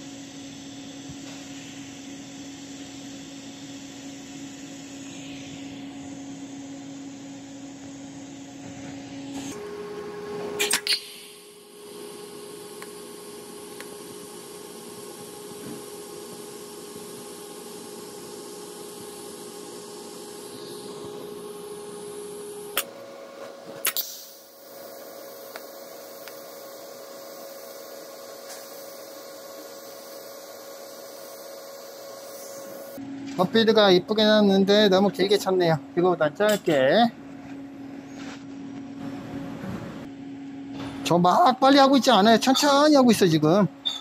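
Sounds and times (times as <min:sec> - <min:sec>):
welding electrical hum: 0:00.0 - 0:44.0.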